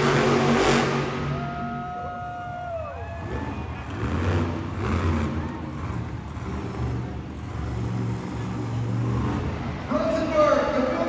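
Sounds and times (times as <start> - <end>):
monster truck engine revving: 0.0 - 2.3, 3.0 - 10.8.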